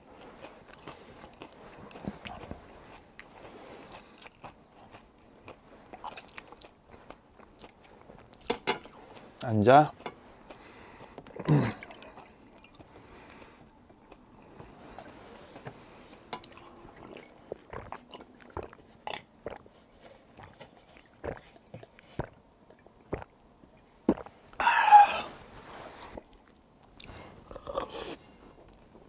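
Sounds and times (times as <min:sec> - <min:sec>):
close-up chewing: 0:00.0 - 0:24.6, 0:26.0 - 0:29.0.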